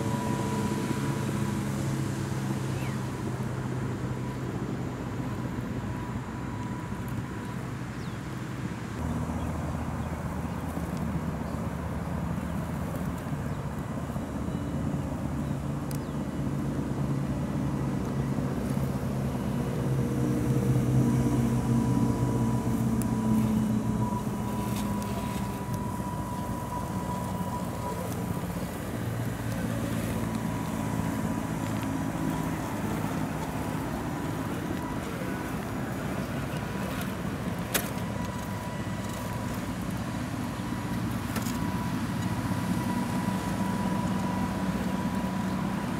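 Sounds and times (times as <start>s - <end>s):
tires on loose gravel: 0.0s - 45.9s.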